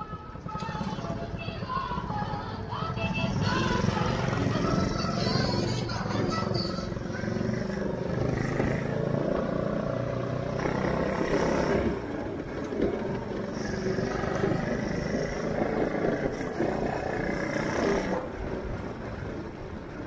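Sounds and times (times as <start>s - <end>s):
go-kart engine running: 0.0s - 20.0s
road noise: 0.0s - 20.0s.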